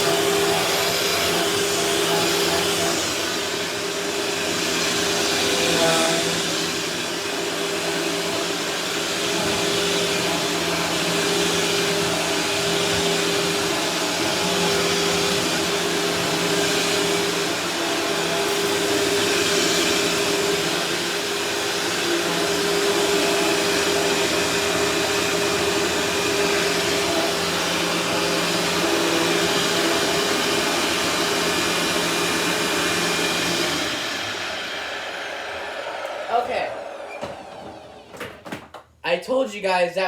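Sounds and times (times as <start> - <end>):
vacuum cleaner motor whirring: 0.0 - 38.7.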